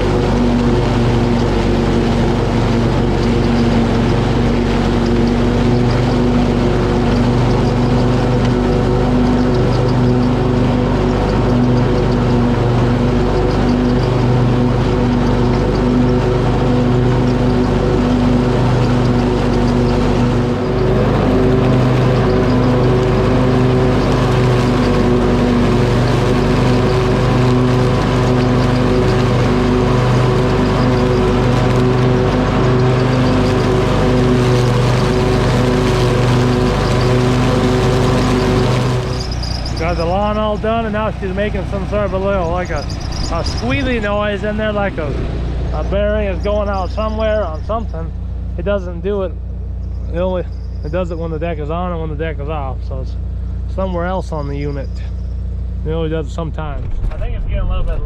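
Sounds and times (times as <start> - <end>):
riding lawn mower engine: 0.0 - 58.0.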